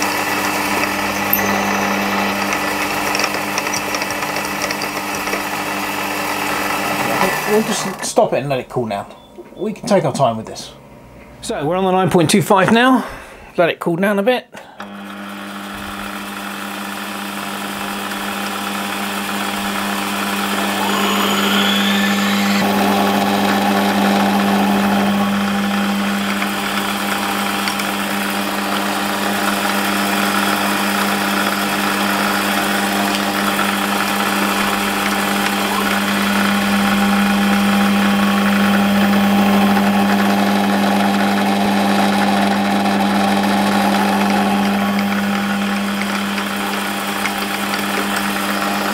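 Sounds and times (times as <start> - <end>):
drill boring into metal: 0.0 - 8.1, 14.8 - 48.9
metal lathe motor humming: 0.0 - 8.1, 14.8 - 48.9.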